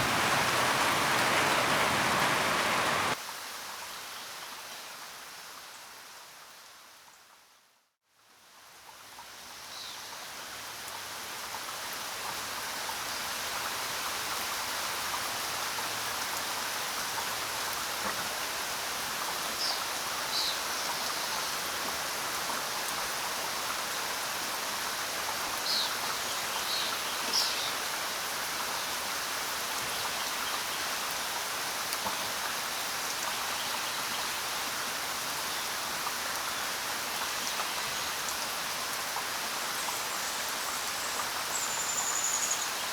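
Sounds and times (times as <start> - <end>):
steady rain falling: 0.0 - 7.4, 8.2 - 42.9.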